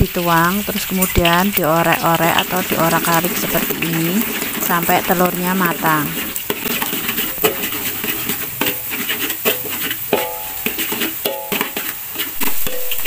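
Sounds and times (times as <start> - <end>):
light sizzle: 0.0 - 13.0
metal spatula scraping a wok: 0.0 - 13.0.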